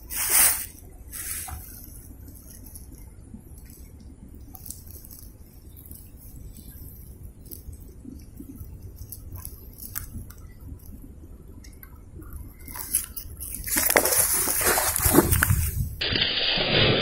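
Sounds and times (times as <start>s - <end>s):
water splashing and sloshing: 0.0s - 17.0s
hands rustling and clicking: 1.4s - 11.0s, 11.6s - 15.8s.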